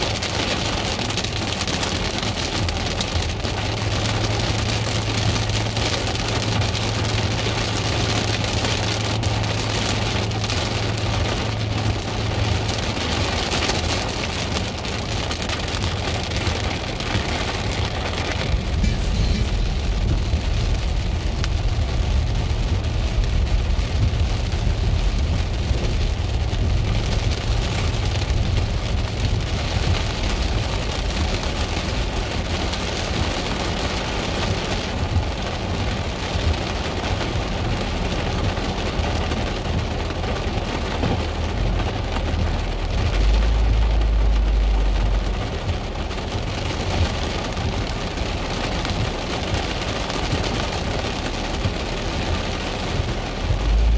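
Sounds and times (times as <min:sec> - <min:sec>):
car driving on dirt road: 0:00.0 - 0:53.9
deep rumble: 0:00.0 - 0:53.9
rain pattering on car: 0:00.0 - 0:53.9.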